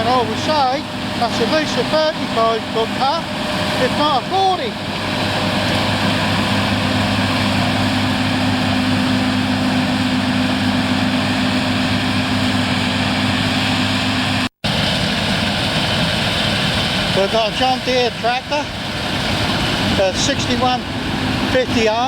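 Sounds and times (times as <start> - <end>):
combine harvester engine drone: 0.0 - 22.0.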